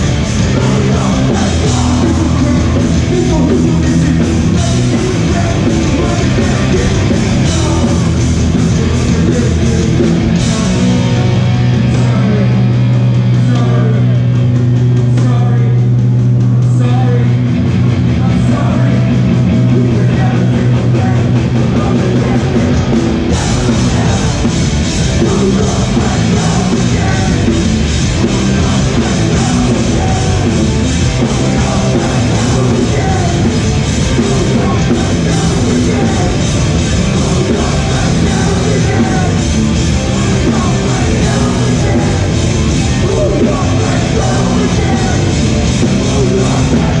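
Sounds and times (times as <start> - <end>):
drums crashing: 0.0 - 47.0
punk band playing live: 0.0 - 47.0.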